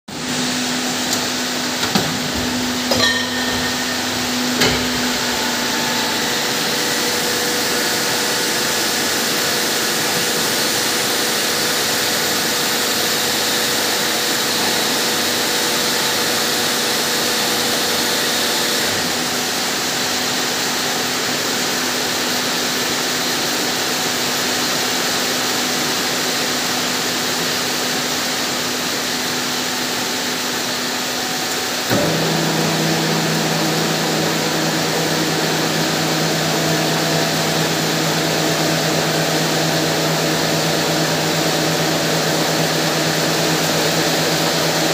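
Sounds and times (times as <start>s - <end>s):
machine humming and hissing: 0.1s - 44.9s.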